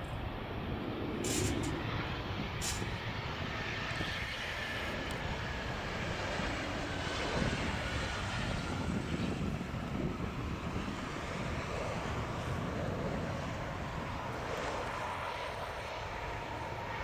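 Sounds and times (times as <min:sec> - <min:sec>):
jet engines landing: 0:00.0 - 0:17.0.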